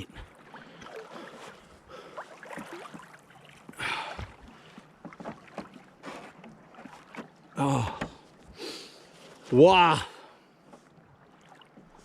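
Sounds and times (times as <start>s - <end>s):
water splashing around kayak: 0.0s - 12.0s.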